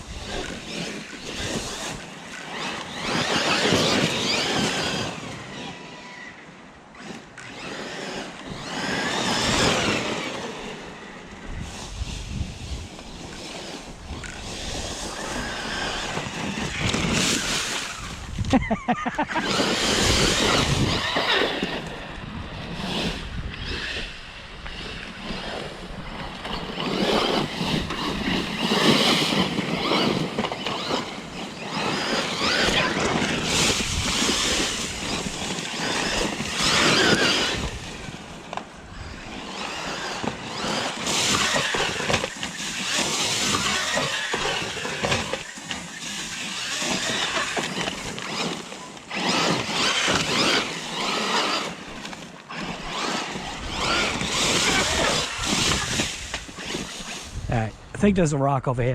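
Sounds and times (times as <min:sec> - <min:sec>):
electric motor whine: 0:00.0 - 0:57.5
tyres churning loose dirt: 0:00.0 - 0:58.0.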